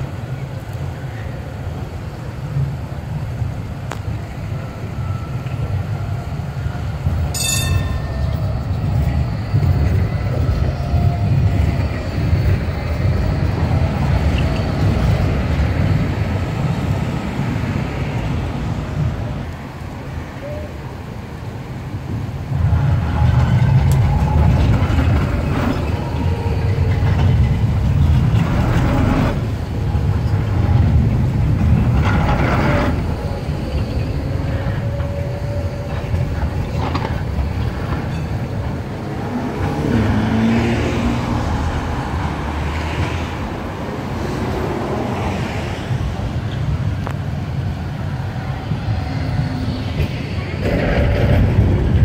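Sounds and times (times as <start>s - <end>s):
tram passing with low rumble: 0.0s - 52.0s.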